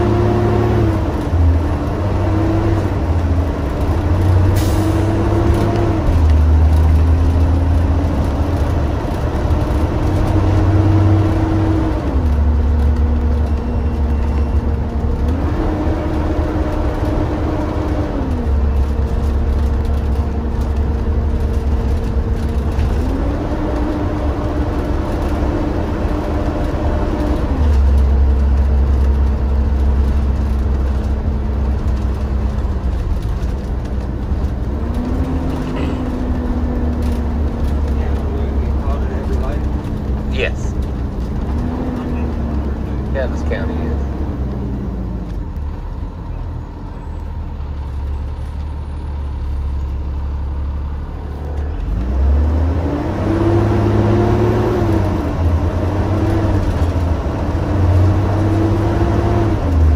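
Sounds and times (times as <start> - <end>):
diesel bus engine running: 0.0 - 59.9.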